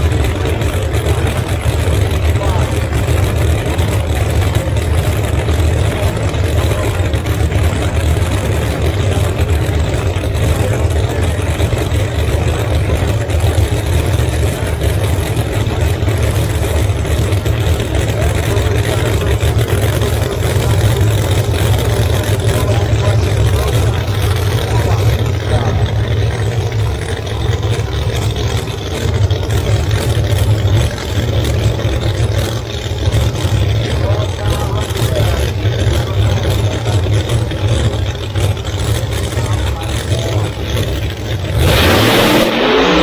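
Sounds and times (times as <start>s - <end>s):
race car engines idling: 0.0s - 43.0s.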